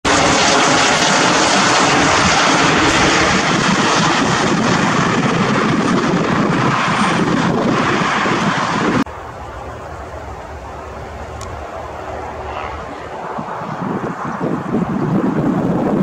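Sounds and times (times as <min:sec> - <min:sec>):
helicopter engine and rotor: 0:00.1 - 0:15.1.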